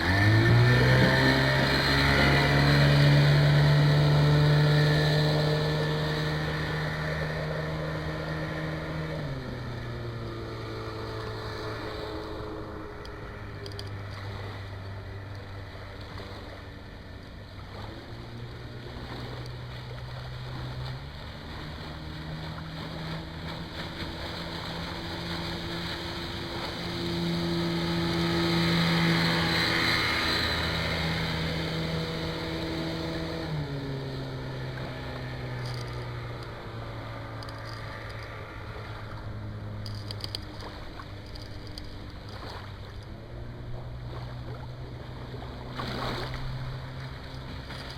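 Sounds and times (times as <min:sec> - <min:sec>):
outboard motor driving boat: 0:00.0 - 0:47.9.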